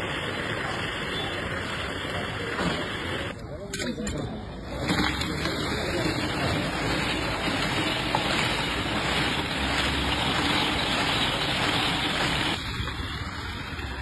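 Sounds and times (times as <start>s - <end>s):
ice cream machine rushing: 0.0s - 3.4s, 4.5s - 14.0s.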